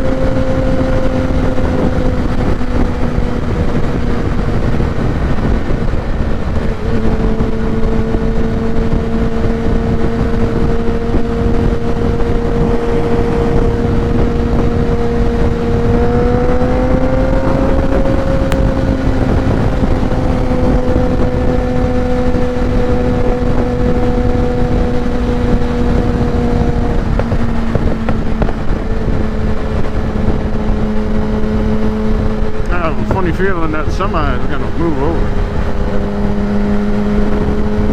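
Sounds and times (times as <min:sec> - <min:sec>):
motorcycle engine cruising: 0:00.0 - 0:37.9
wind rush on microphone: 0:00.0 - 0:37.9.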